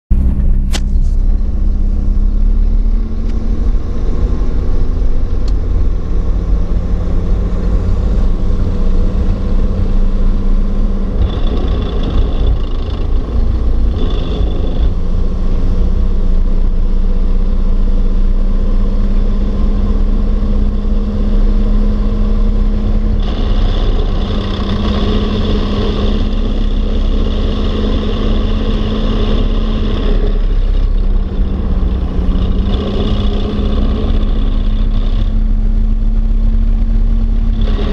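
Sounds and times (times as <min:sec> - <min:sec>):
truck drivetrain rumble: 0:00.1 - 0:37.9.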